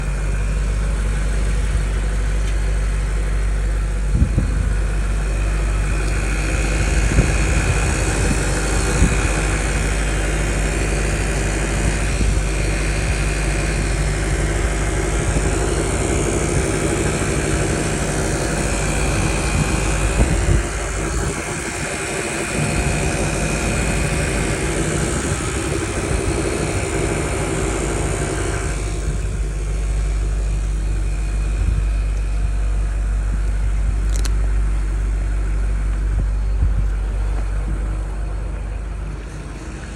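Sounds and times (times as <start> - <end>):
car engine running: 0.0 - 39.9
high whine: 0.0 - 39.9.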